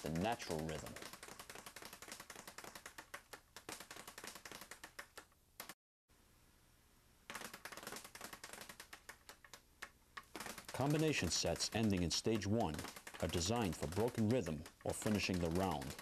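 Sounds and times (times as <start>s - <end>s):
speed bag rattling: 0.0s - 5.8s, 7.3s - 16.0s.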